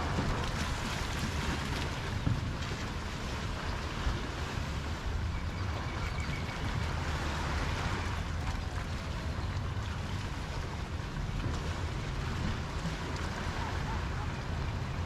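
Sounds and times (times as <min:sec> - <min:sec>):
small waves washing: 0:00.0 - 0:15.0
wind rumbling on microphone: 0:00.0 - 0:15.0.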